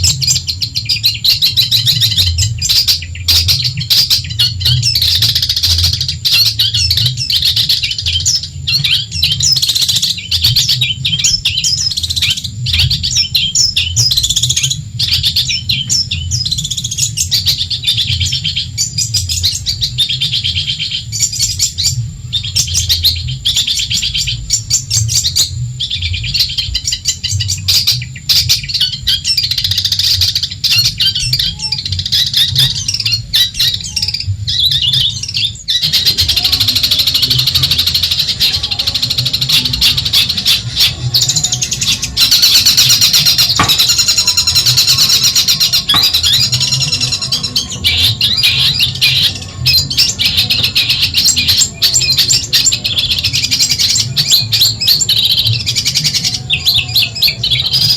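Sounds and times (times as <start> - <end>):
bird singing high chattering notes: 0.0 - 57.9.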